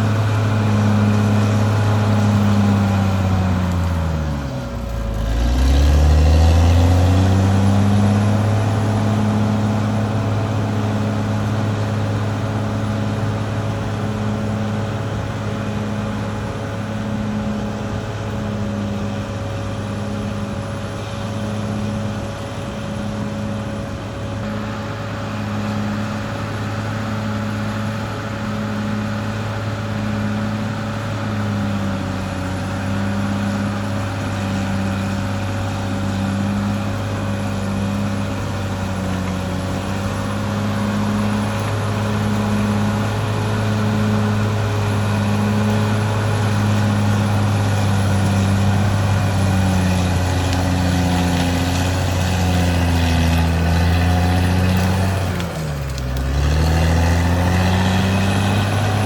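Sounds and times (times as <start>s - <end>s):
bulldozer diesel engine throbbing: 0.0s - 59.0s.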